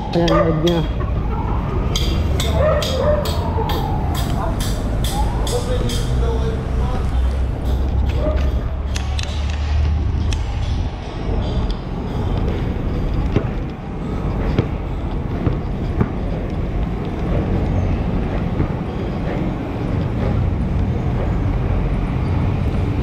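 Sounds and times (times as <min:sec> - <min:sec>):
street traffic: 0:00.0 - 0:23.0
vehicle rumble: 0:00.0 - 0:23.0.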